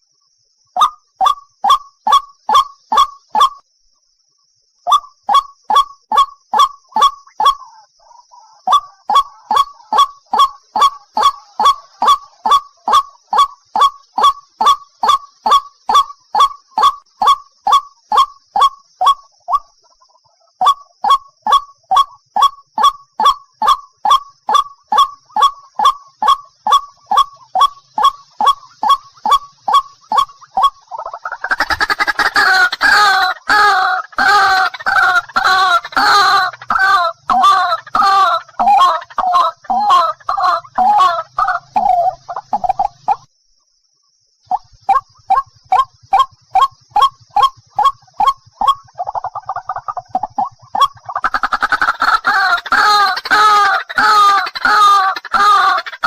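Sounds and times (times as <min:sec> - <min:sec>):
harsh bird calls: 0:04.9 - 0:43.3, 0:44.5 - 0:56.0.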